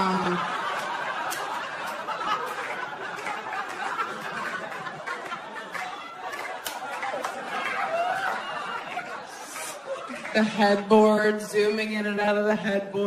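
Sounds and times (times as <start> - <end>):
audience laughing: 0.0 - 10.9.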